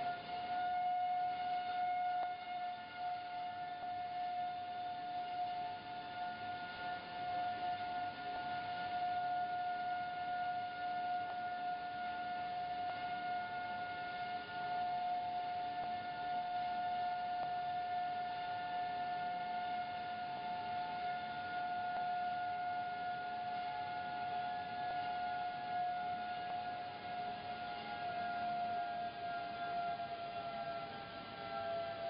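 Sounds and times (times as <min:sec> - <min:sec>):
machine high-pitched tone: 0:00.0 - 0:32.0.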